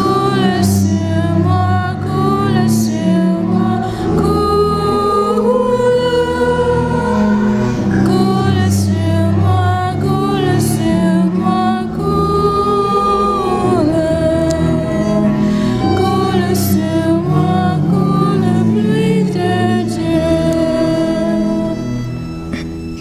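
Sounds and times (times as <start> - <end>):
bass and instrumental accompaniment: 0.0 - 23.0
voices singing slow melody: 0.0 - 23.0.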